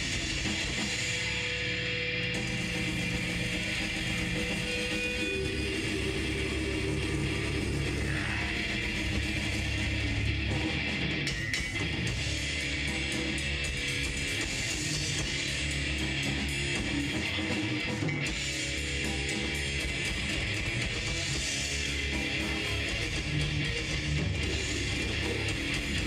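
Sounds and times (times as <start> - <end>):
death metal band playing: 0.0 - 26.0
distorted electric guitars: 0.0 - 26.0.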